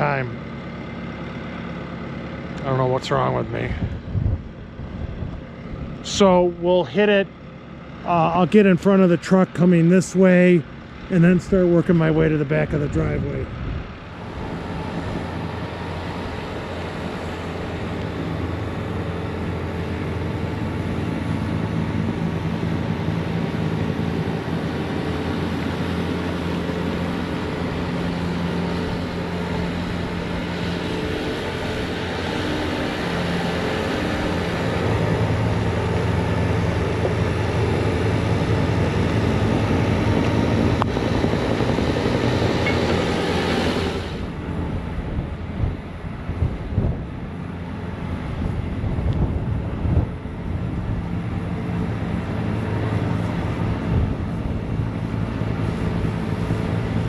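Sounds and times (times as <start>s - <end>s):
diesel engine running: 0.0s - 57.0s
hydraulic snowblower working: 0.0s - 57.0s.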